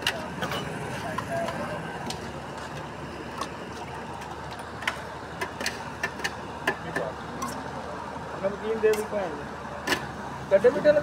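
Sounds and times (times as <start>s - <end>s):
street noise hum: 0.0s - 11.0s.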